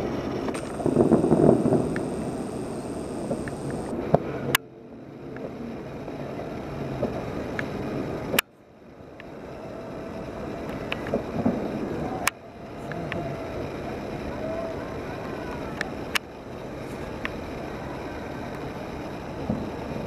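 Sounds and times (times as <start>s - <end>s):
distant fireworks rumble and crackle: 0.0s - 20.0s.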